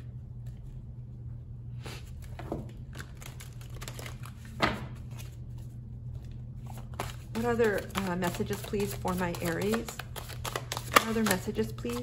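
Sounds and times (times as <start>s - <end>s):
steady low hum: 0.0s - 12.0s
cards rustling and sliding: 1.9s - 12.0s.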